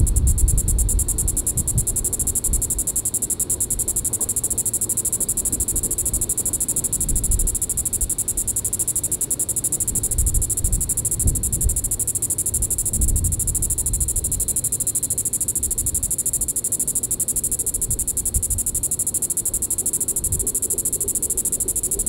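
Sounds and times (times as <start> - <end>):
cicada pulsed buzzing: 0.0 - 22.0.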